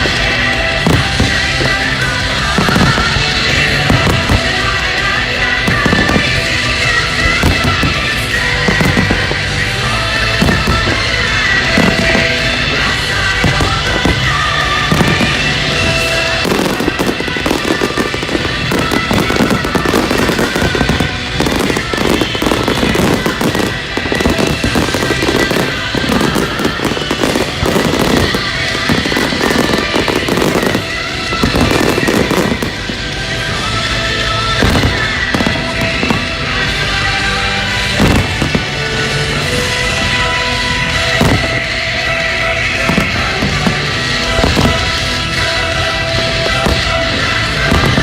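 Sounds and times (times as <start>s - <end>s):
fireworks banging and crackling: 0.0s - 48.0s
music: 0.0s - 48.0s.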